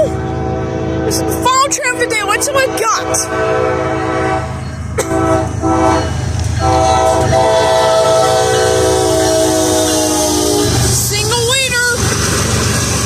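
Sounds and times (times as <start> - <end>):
locomotive horn blasts: 0.0 - 11.8
passing train rumble: 0.0 - 13.0.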